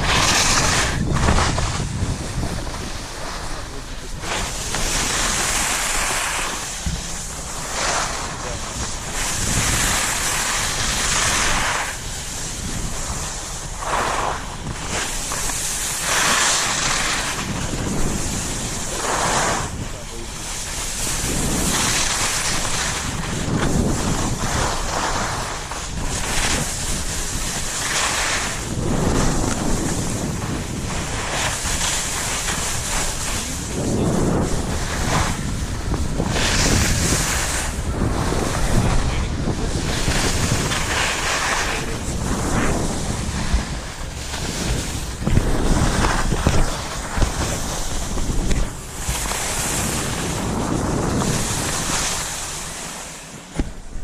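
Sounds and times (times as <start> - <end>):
skis scraping over snow: 0.0 - 54.0
wind rushing over microphone: 0.0 - 54.0.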